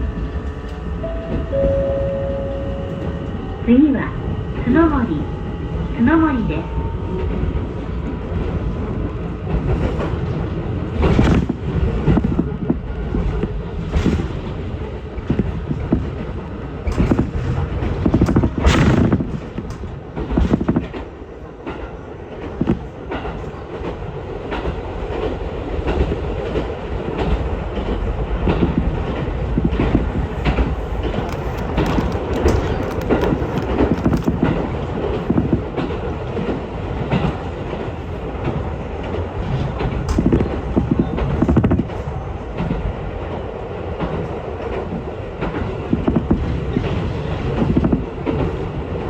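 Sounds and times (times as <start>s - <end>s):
train wheels rumbling on rails: 0.0s - 49.0s
track clacks and knocks: 2.7s - 49.0s.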